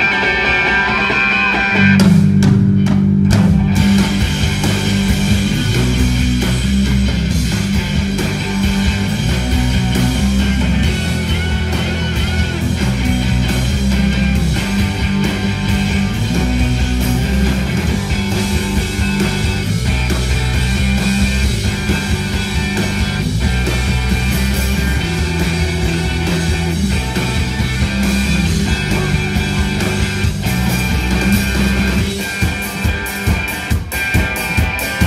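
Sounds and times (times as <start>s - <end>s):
bass guitar: 0.0s - 35.0s
distorted electric guitars: 0.0s - 35.0s
drum kit: 0.0s - 35.0s.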